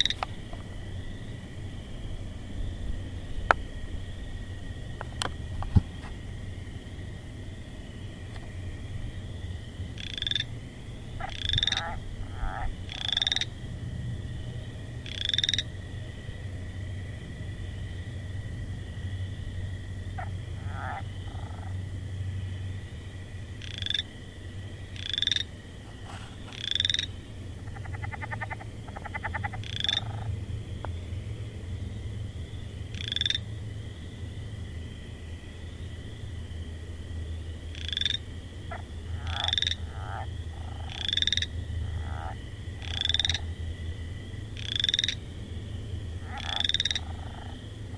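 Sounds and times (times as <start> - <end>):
low frog croaks: 0.0 - 1.2, 7.9 - 13.6, 14.2 - 36.2, 37.6 - 47.9
rapid pulsing frog trill: 0.0 - 1.9, 7.6 - 47.9
frogs calling: 0.0 - 47.9
high background drone: 0.0 - 47.9.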